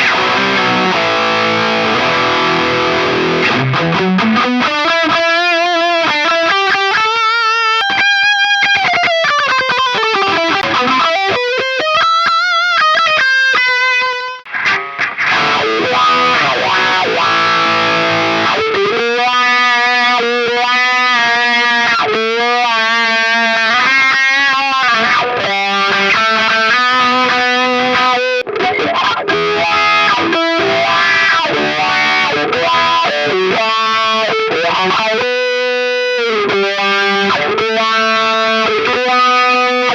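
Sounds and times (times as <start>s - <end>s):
distorted electric guitar with wah: 0.0s - 39.9s.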